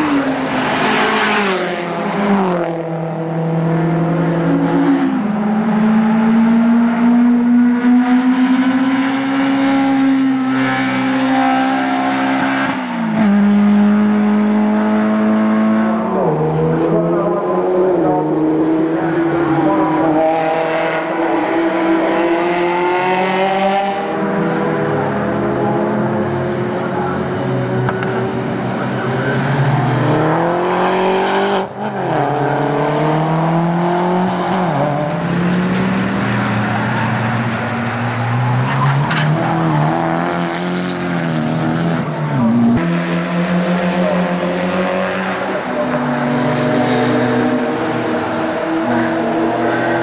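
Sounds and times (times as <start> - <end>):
race car engines accelerating: 0.0 - 50.0.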